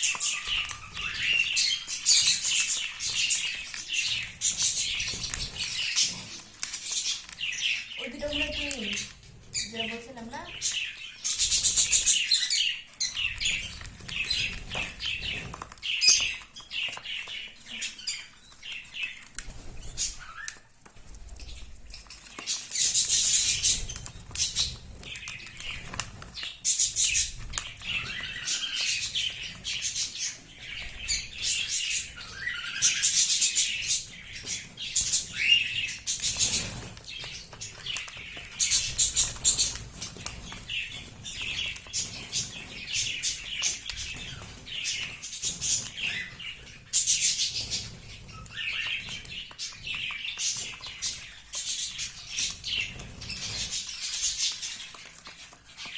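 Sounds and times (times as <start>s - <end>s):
young budgerigars chirping: 0.0s - 20.7s, 21.3s - 55.9s.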